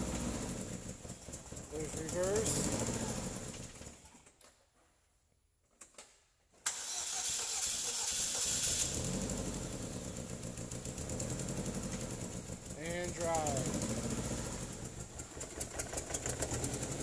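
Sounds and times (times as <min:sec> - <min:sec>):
car engine shutting off: 0:00.0 - 0:04.0, 0:06.7 - 0:17.0
car engine starting and running: 0:00.0 - 0:04.0, 0:06.7 - 0:17.0.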